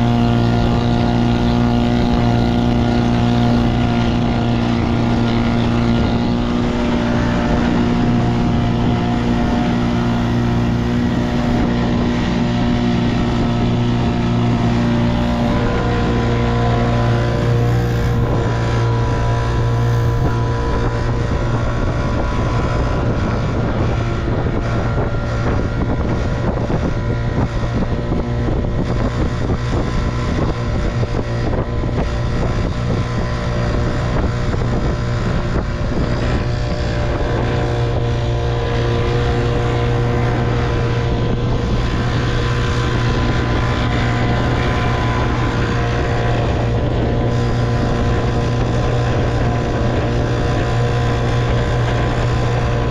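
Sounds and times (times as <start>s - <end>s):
outboard motor running: 0.0s - 52.9s.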